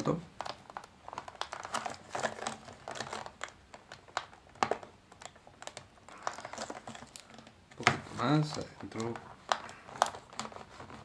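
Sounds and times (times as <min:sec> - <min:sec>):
plastic blister pack crinkling: 0:00.0 - 0:11.0.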